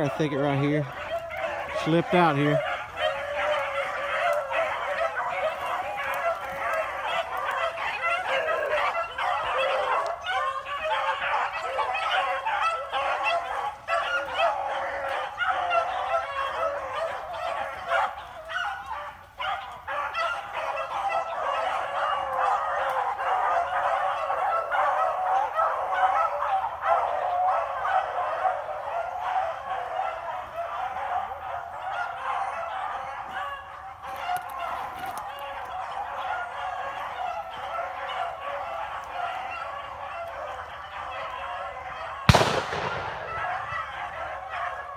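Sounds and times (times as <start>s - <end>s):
pack of hounds baying: 0.0s - 44.9s.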